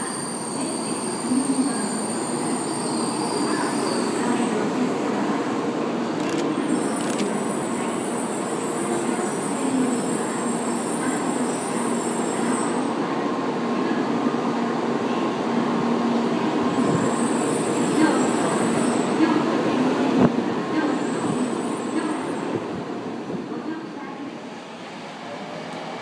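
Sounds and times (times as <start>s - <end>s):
train running hum: 0.0s - 26.0s.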